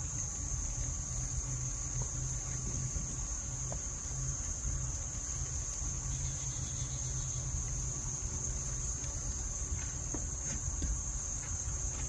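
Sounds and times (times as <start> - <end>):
crickets droning: 0.0 - 12.0
low uneven rumble: 0.0 - 12.0.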